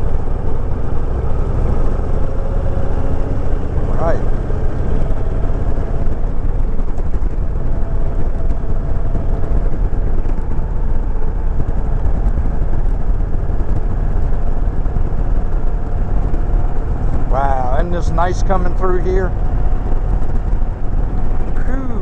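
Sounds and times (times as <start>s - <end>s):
motorcycle engine cruising: 0.0s - 22.0s
wind rumbling on microphone: 0.0s - 22.0s.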